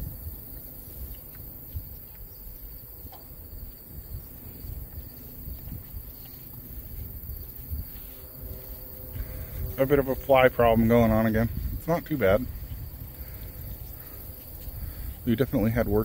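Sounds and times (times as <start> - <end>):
crickets and insects droning: 0.0 - 16.0
low uneven rumble: 0.0 - 16.0.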